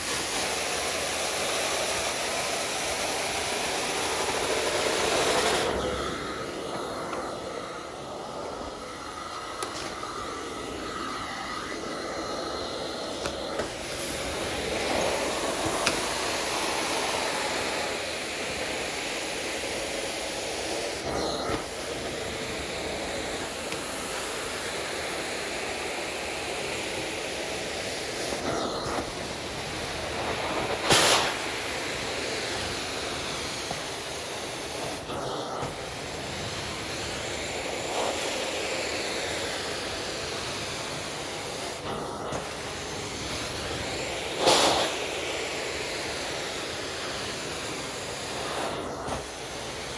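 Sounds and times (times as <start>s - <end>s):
vacuum suction hiss: 0.0s - 49.9s.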